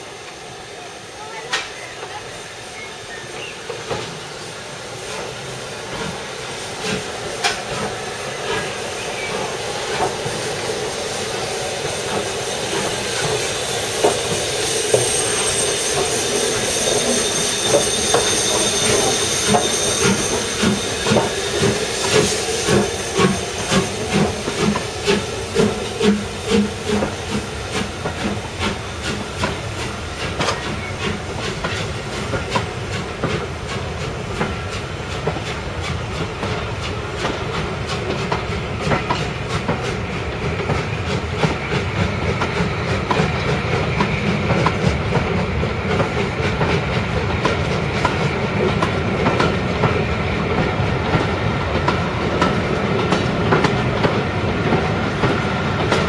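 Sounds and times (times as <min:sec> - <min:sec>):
steam hissing: 0:00.0 - 0:56.0
heavy locomotive exhaust beats: 0:03.7 - 0:56.0.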